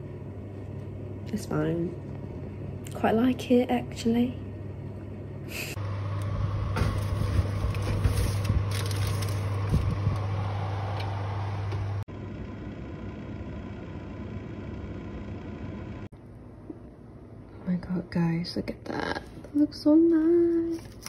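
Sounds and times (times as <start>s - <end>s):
oven fan humming: 0.0s - 21.0s.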